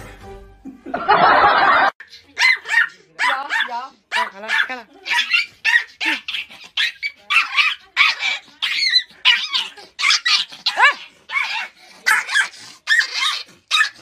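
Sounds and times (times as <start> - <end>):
small dog yapping: 2.4 - 14.0.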